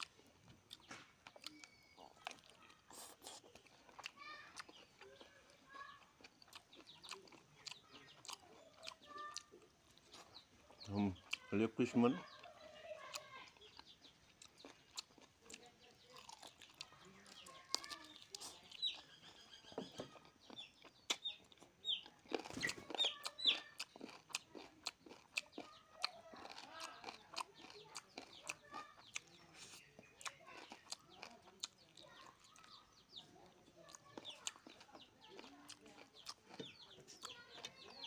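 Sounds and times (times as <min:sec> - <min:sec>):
chickens clucking and chirping: 0:00.0 - 0:38.0
wet chewing clicks and smacks: 0:00.0 - 0:38.0.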